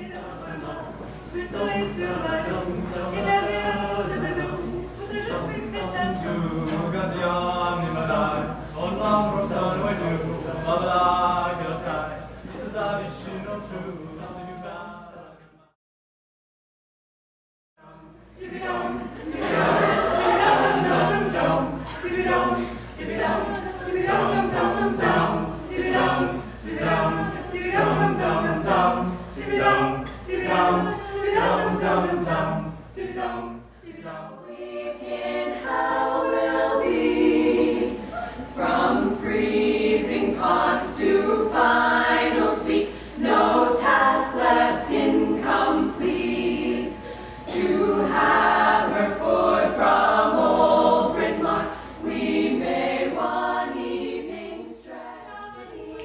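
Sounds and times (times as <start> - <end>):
women's a cappella group singing: 0.0 - 15.5, 17.8 - 56.0
a cappella group singing in harmony: 0.0 - 15.8, 17.8 - 56.0.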